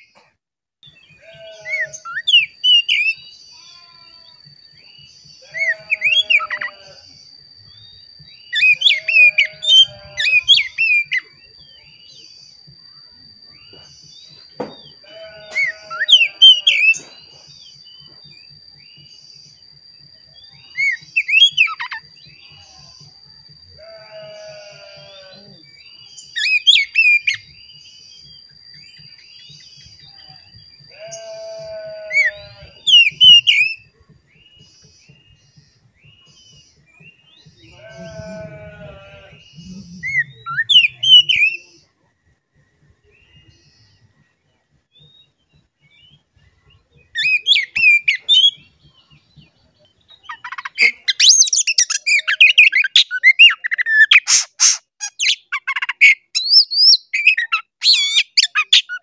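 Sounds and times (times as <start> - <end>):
faint high whine: 0.1 - 51.9
bird singing whistled song: 0.8 - 59.0.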